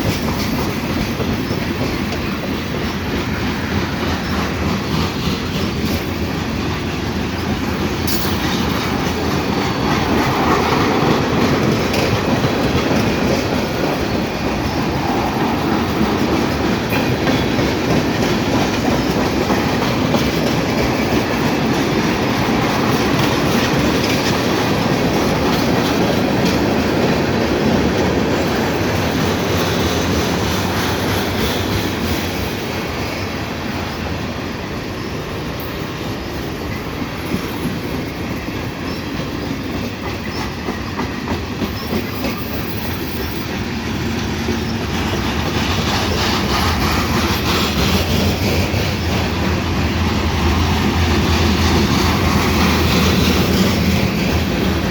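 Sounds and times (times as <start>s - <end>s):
freight train rolling past: 0.0s - 54.9s
wheels clicking over rail joints: 0.0s - 54.9s.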